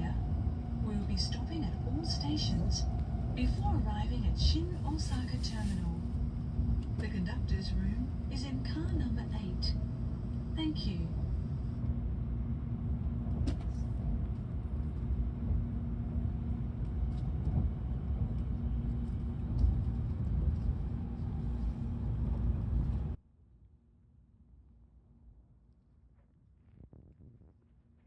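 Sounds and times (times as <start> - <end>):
faint steady hum: 0.0 - 23.2
train rumble inside cabin: 0.0 - 23.2.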